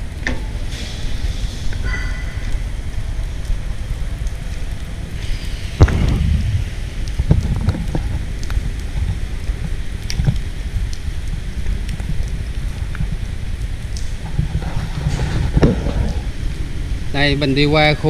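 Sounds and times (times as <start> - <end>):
wind buffeting microphone: 2.6 - 18.0.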